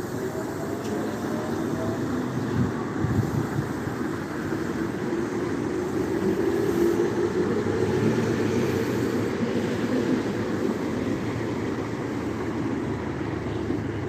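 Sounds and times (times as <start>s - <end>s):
low rumble of vehicle noise: 0.0s - 14.0s.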